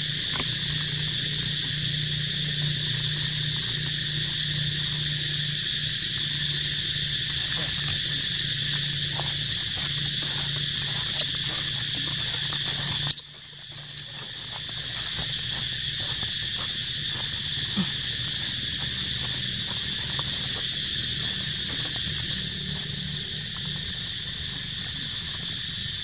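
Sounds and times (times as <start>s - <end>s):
insects buzzing in chorus: 0.0s - 26.0s.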